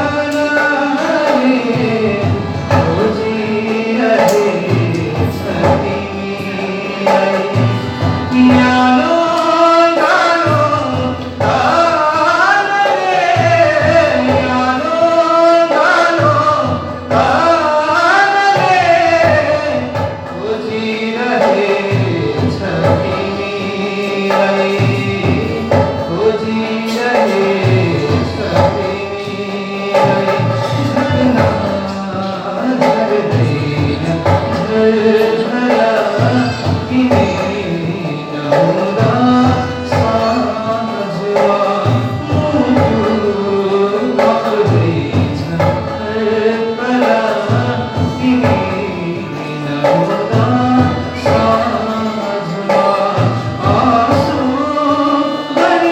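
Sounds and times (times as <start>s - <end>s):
instrumental accompaniment with beat: 0.0s - 55.9s
man singing: 0.0s - 55.9s.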